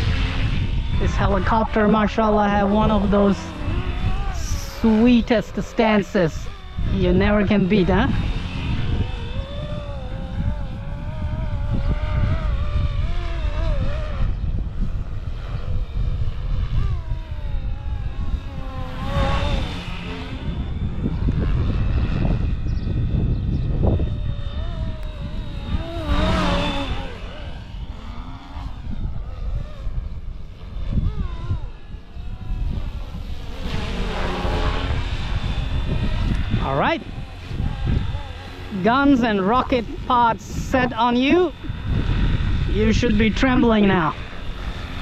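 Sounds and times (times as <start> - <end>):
rc helicopter rotor whine: 0.0 - 45.0
wind rumble on microphone: 0.0 - 45.0.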